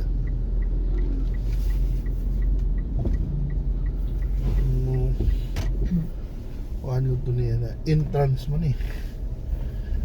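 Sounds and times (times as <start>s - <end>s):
car engine and road rumble: 0.0s - 10.0s
light regular ticking: 0.0s - 10.0s.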